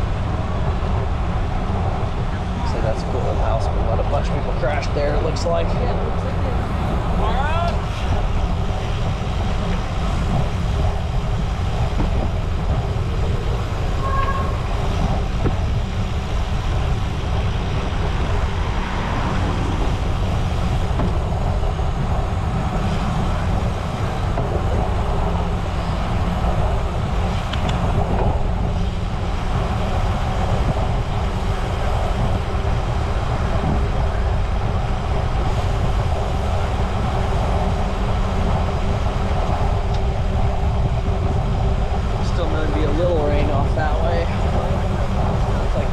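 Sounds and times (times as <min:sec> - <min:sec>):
bicycle tyres rolling on pavement: 0:00.0 - 0:45.9
wind rushing over microphone: 0:00.0 - 0:45.9.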